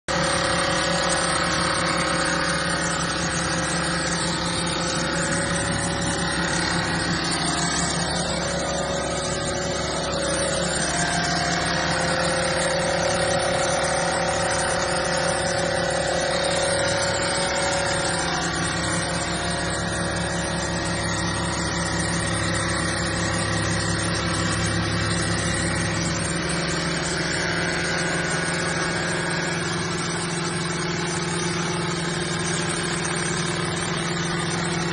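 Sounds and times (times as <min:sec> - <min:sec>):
steady motor hum: 0:00.1 - 0:34.9.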